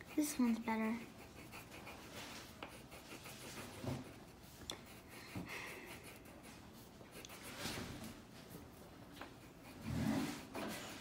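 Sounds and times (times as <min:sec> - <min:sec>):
crayon scratching on paper: 0:00.0 - 0:11.0.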